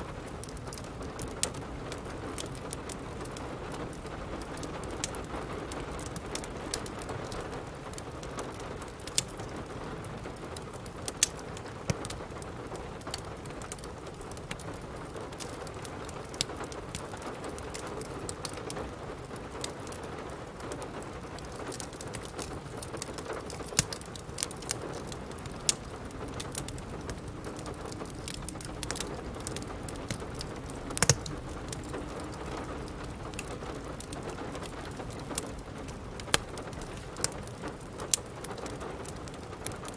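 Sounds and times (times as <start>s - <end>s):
fireplace fire crackling: 0.0s - 39.9s
steady rain: 0.0s - 39.9s.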